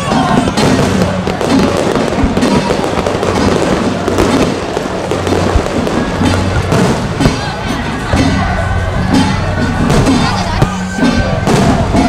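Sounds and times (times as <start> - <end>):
fireworks crackling: 0.0 - 8.4, 9.8 - 12.0
fireworks bangs: 0.0 - 8.5, 9.8 - 12.0.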